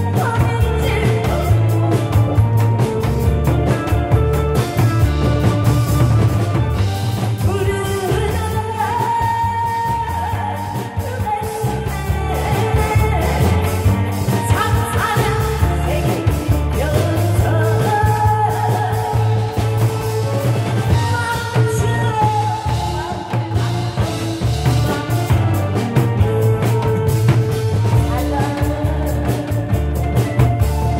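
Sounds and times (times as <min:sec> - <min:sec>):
person singing: 0:00.0 - 0:30.9.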